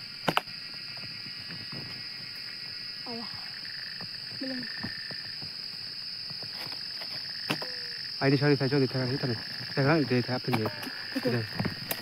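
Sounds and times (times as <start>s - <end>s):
cicadas singing: 0.0s - 12.0s.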